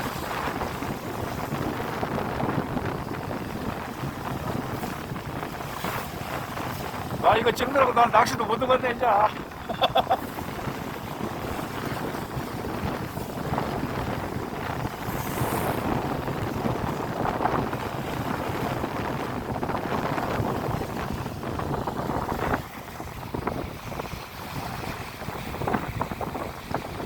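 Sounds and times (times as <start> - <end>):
sea water washing: 0.0 - 27.0
wind buffeting microphone: 0.0 - 27.0.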